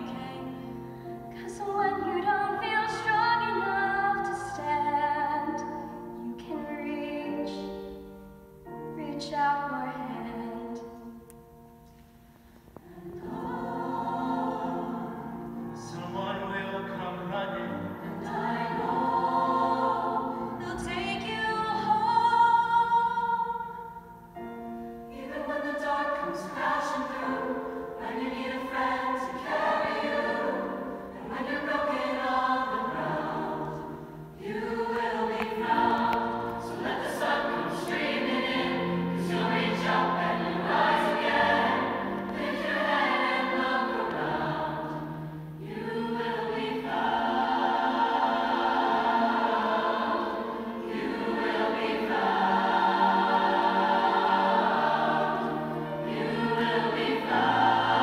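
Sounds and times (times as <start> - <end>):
choir singing in harmony: 0.0 - 11.7, 12.4 - 58.0.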